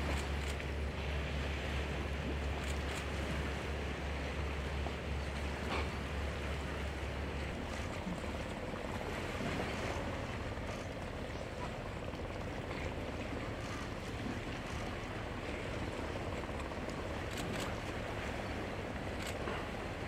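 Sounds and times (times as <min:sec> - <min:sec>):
sea: 0:00.0 - 0:20.0.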